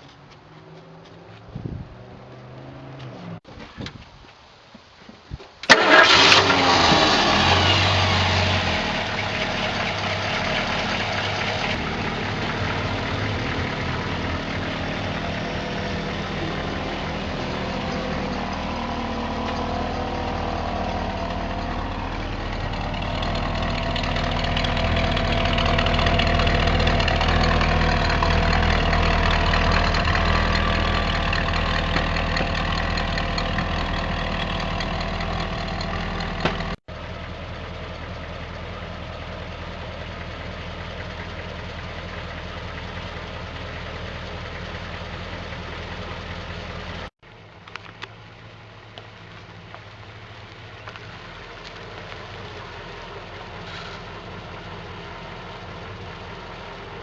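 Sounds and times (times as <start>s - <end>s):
vehicle engine starting and idling: 5.6s - 57.0s.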